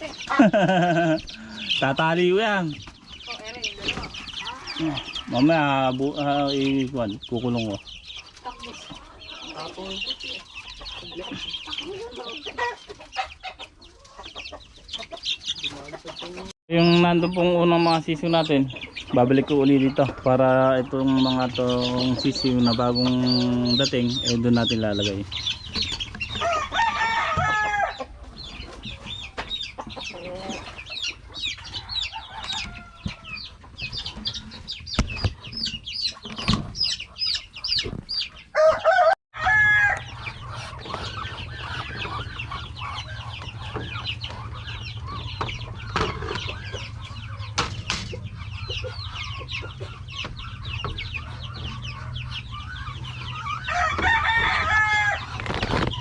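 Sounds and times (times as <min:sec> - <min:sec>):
chickens clucking: 0:00.0 - 0:56.0
chicks peeping: 0:00.0 - 0:56.0.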